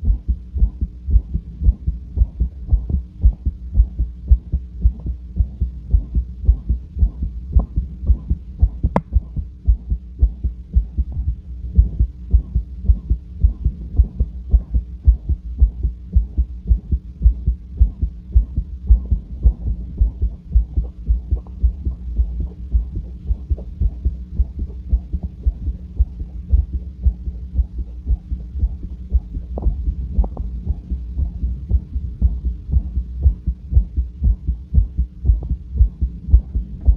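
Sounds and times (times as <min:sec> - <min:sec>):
heartbeat: 0:00.0 - 0:36.9
whooshing heart murmur: 0:00.0 - 0:36.9.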